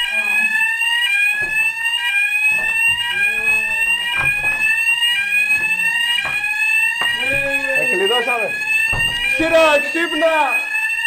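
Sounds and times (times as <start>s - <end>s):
fire alarm rising sweep tone: 0.0s - 11.0s.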